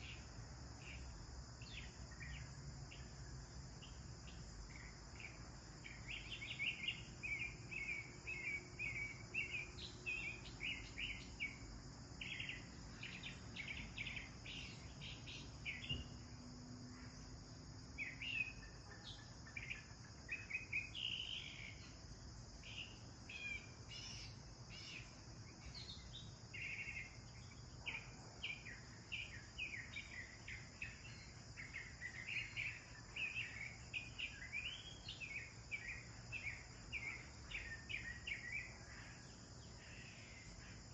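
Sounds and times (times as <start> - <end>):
sparrows chirping: 3.8 - 16.3, 18.0 - 40.9.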